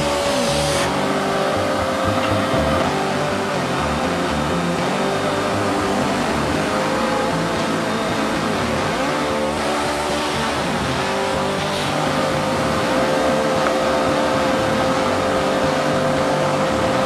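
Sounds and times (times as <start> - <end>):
shop vacuum whining: 0.0 - 17.0.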